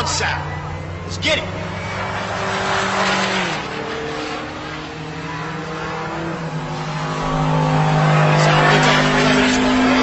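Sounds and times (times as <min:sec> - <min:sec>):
race car engine running: 0:00.0 - 0:10.0.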